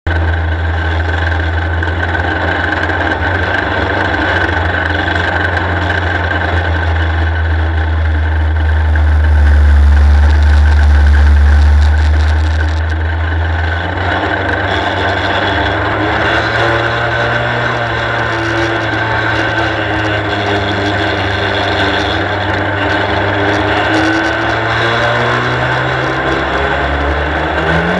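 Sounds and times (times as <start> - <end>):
race car engine droning: 0.1 - 27.9.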